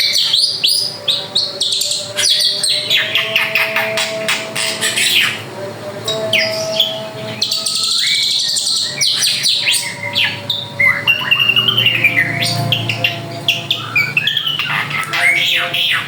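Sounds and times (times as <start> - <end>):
bird singing sweeping notes: 0.0 - 5.5, 6.1 - 16.0.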